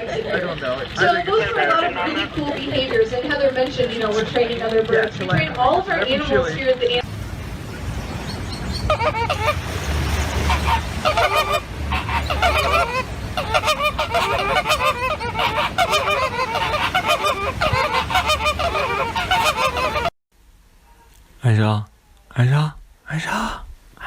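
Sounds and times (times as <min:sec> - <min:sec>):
geese honking: 0:00.0 - 0:20.1.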